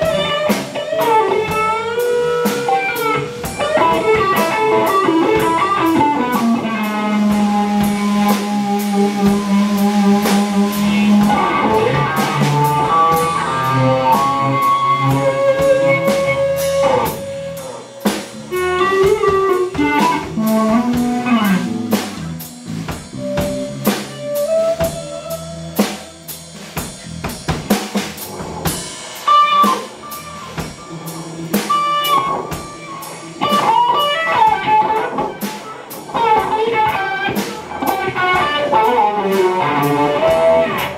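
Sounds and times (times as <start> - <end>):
drum kit playing: 0.0 - 40.9
fuzz electric guitar: 0.0 - 40.9.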